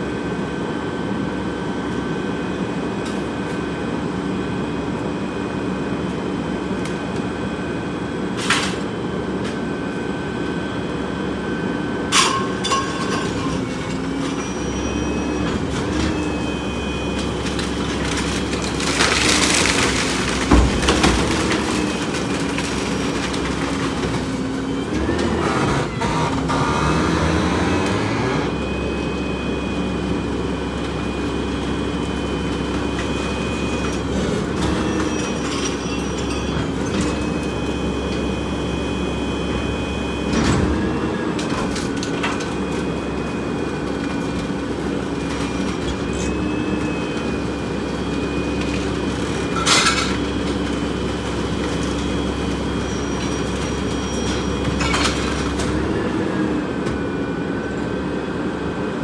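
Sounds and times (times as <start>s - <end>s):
garbage truck engine: 0.0s - 59.0s.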